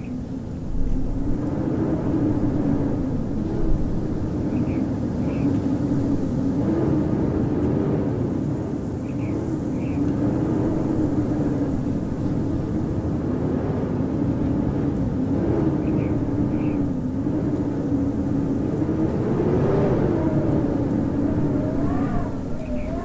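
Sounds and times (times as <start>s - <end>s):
howling blizzard wind: 0.0s - 23.0s.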